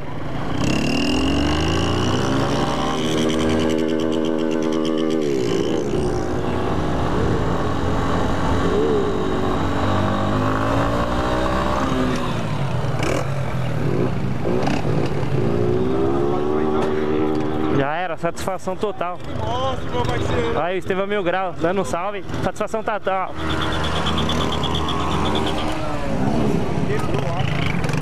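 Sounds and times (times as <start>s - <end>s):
motorcycle engine revving: 0.0s - 17.8s, 22.2s - 28.0s.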